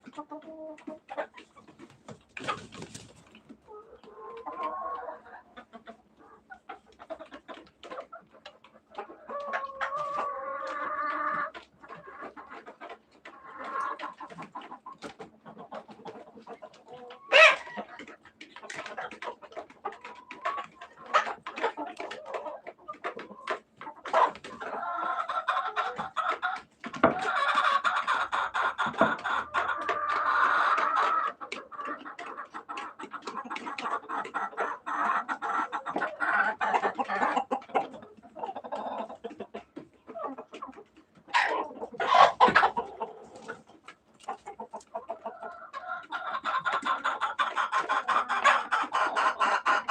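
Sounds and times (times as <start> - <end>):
chickens clucking and calling: 0.0 - 49.9.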